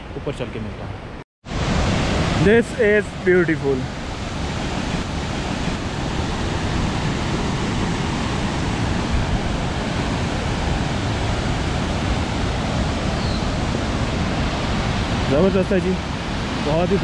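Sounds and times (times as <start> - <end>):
steady loud rushing roar: 1.4 - 17.0.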